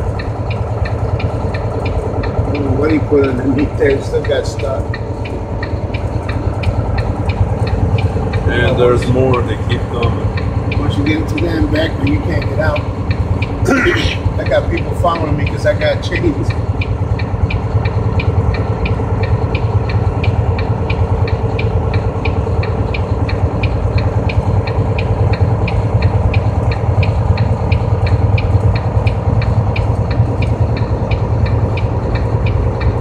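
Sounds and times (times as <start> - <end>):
low engine and road drone: 0.0 - 33.0.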